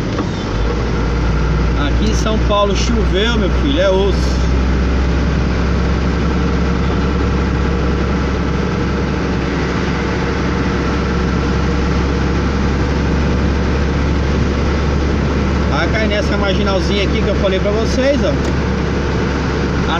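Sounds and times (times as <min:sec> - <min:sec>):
tyres on wet road: 0:00.0 - 0:19.9
vehicle engine drone: 0:00.0 - 0:19.9.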